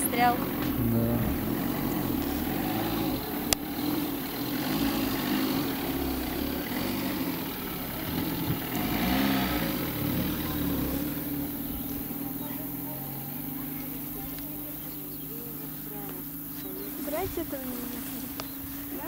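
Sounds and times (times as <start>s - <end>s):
car engine pulling away: 0.0s - 19.0s.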